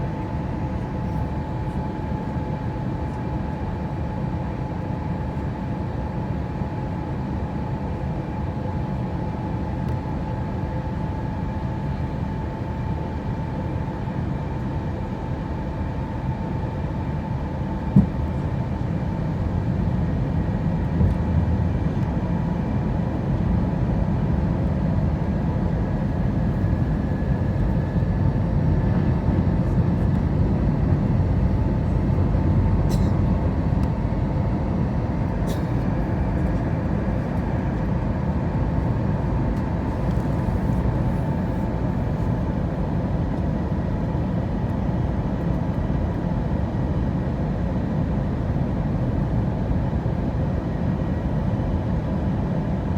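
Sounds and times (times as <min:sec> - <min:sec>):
airliner engine and airflow rush: 0:00.0 - 0:52.9.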